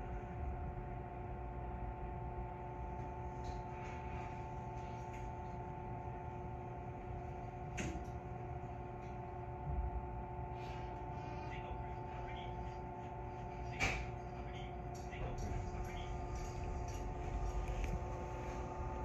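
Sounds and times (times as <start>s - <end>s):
train electrical hum: 0.0s - 19.0s.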